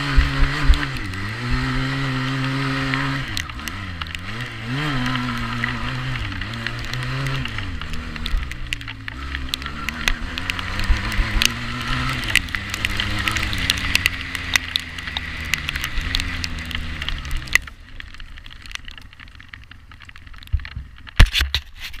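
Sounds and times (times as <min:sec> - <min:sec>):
quad bike engine running: 0:00.0 - 0:19.4
sharp clicks and knocks: 0:00.0 - 0:22.0.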